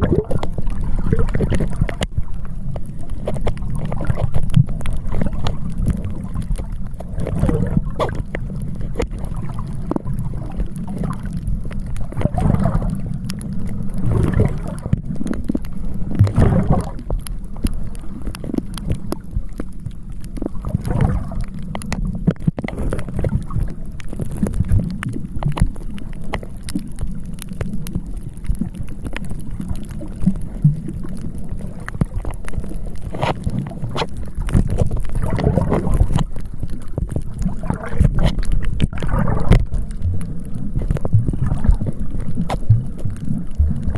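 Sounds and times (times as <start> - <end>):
sea water lapping: 0.0 - 19.7, 20.3 - 21.8, 28.1 - 43.9
wind rumble on microphone: 0.0 - 43.9.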